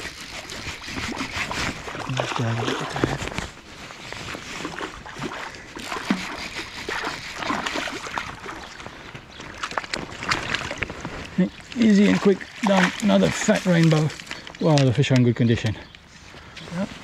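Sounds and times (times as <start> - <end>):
running water: 0.0 - 3.6, 4.4 - 15.0.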